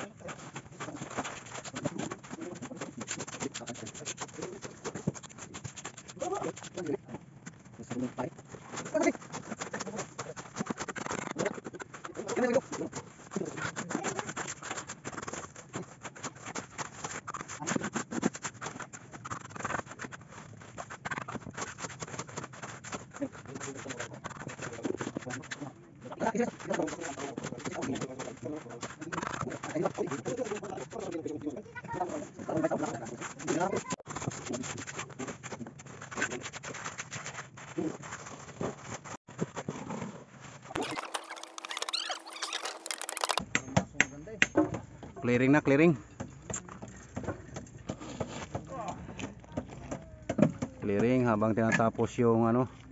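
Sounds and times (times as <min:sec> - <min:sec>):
trowel and shovels scraping concrete: 0:00.0 - 0:43.5, 0:46.2 - 0:52.1.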